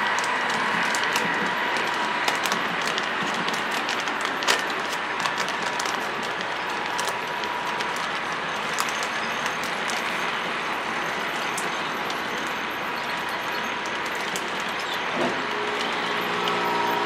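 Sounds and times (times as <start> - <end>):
thin steady whine: 0.0 - 17.0.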